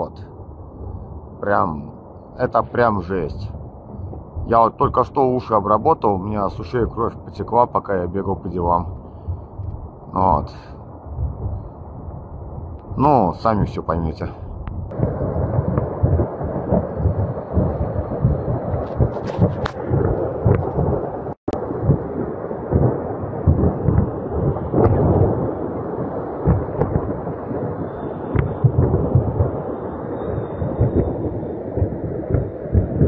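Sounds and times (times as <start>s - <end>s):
deep rumbling of fire: 0.0s - 33.0s.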